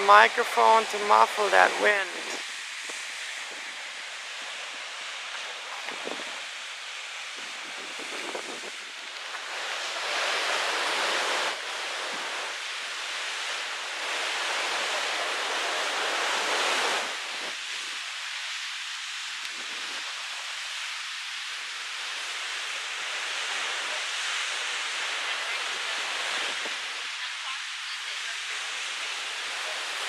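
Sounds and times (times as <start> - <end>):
ocean surf: 0.0 - 30.0
wind: 0.0 - 30.0.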